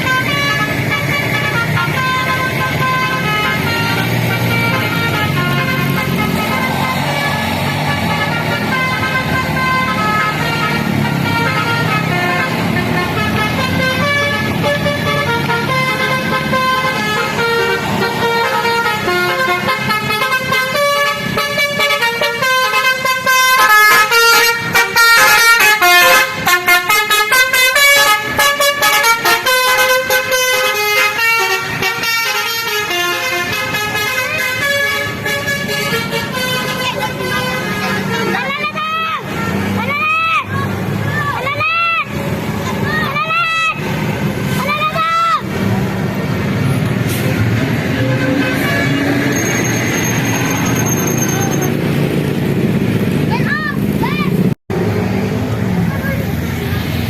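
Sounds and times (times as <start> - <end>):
multi-tone bus horn tune: 0.0 - 40.5, 46.4 - 51.7
bus engine running: 0.0 - 57.0.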